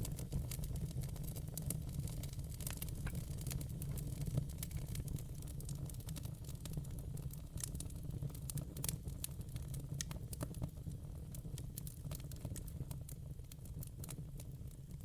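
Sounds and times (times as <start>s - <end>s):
burning logs popping and crackling: 0.0s - 15.0s.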